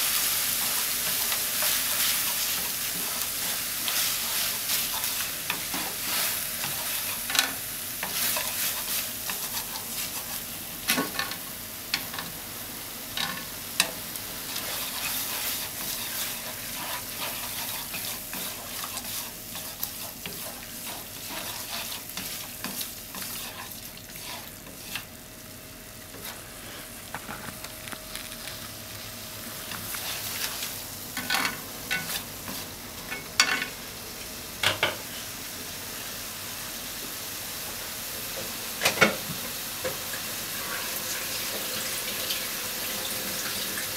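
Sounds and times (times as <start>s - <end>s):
food sizzling in a frying pan: 0.0s - 43.9s.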